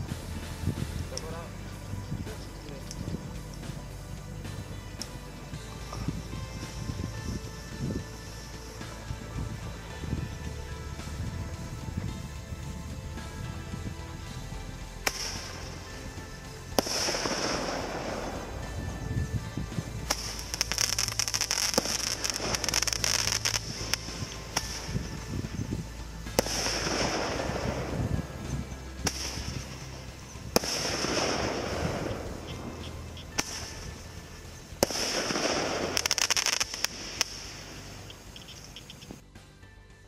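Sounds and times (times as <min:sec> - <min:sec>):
firecrackers banging: 0:00.0 - 0:39.2
firecracker hissing burst: 0:00.0 - 0:39.3.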